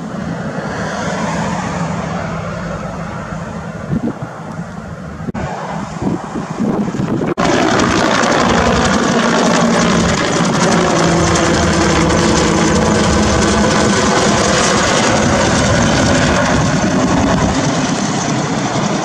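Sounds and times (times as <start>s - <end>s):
helicopter turbine and rotor: 0.0s - 19.0s.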